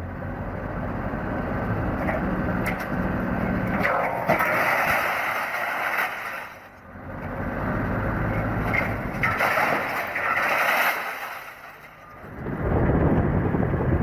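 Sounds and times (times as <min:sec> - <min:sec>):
vehicle noise: 0:00.0 - 0:14.0.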